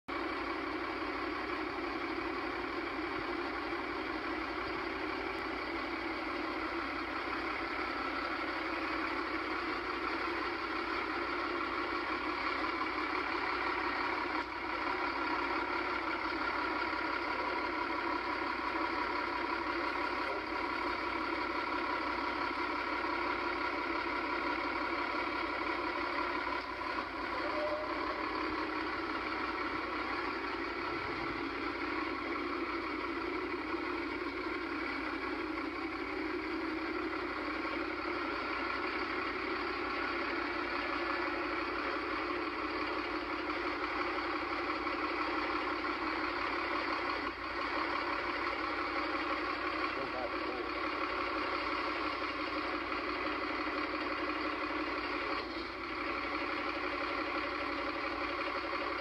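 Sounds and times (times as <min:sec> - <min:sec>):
diesel truck engine idling: 0:00.1 - 0:59.0.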